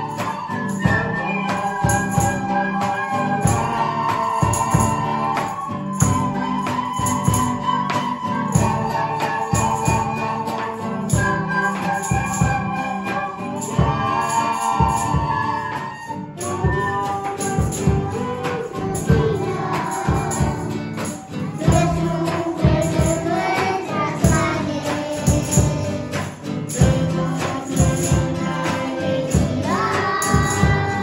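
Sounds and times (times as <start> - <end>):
acoustic guitar: 0.0 - 31.0
children playing recorders: 0.0 - 31.0
percussion beat: 0.0 - 31.0.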